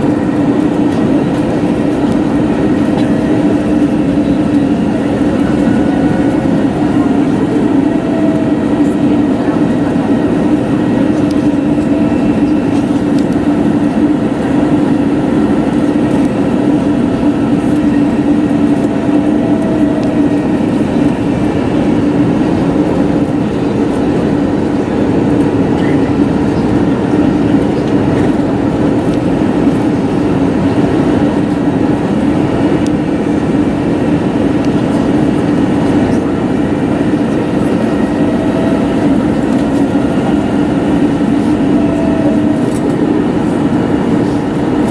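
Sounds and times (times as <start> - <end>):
airplane cabin engine roar: 0.0 - 44.9
low cabin hum: 0.0 - 44.9.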